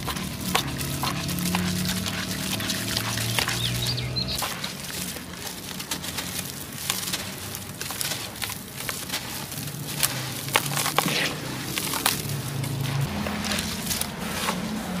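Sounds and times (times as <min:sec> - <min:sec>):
fingers crumbling dry lump: 0:00.0 - 0:15.0.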